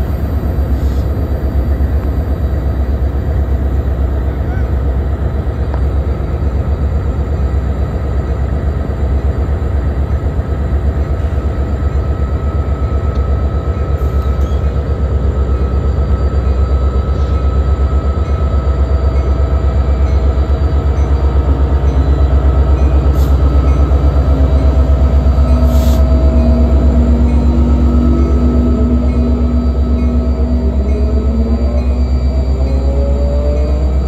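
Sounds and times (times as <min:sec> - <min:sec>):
diesel locomotives rumbling: 0:00.0 - 0:34.0.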